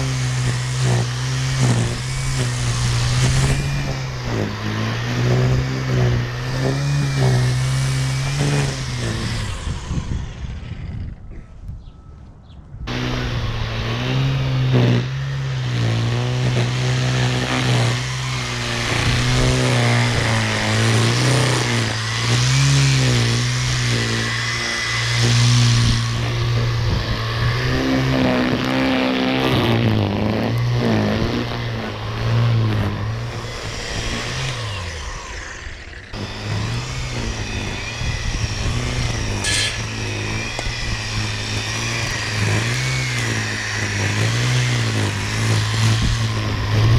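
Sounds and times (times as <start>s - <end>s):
battery power tool motor hum: 0.0s - 11.2s, 12.9s - 46.9s.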